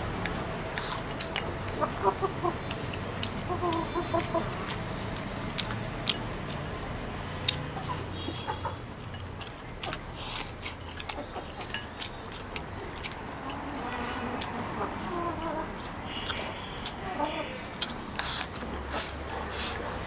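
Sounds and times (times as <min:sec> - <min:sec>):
chickens clucking: 0:00.0 - 0:06.6, 0:07.4 - 0:20.0
chewing: 0:00.2 - 0:20.0.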